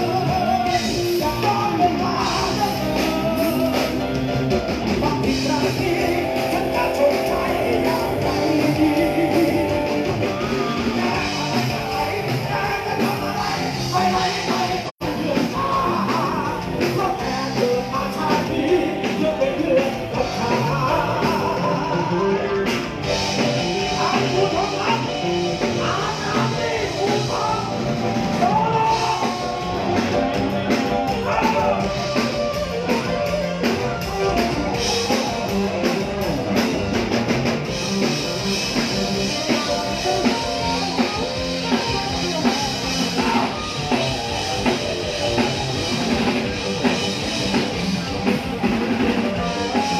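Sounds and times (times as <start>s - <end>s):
person singing: 0.0s - 36.7s, 38.2s - 49.9s
live band playing: 0.0s - 49.9s.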